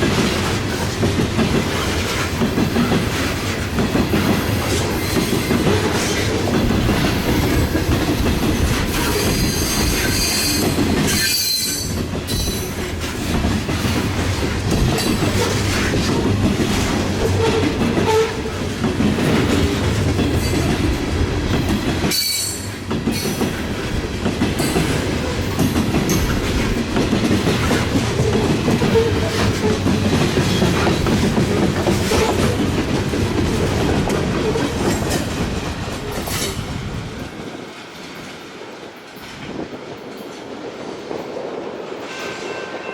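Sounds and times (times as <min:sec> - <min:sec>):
train cars rumbling and clacking: 0:00.0 - 0:42.9.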